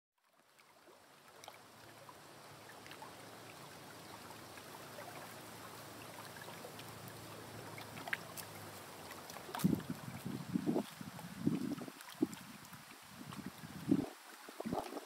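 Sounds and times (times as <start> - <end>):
small splashes and clicks: 0.2 - 15.0
water lapping among rocks: 0.4 - 15.0.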